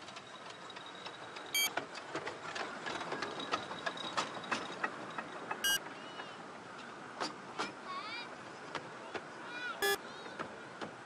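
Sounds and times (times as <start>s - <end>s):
wheels clacking over rail joints: 0.0s - 11.0s.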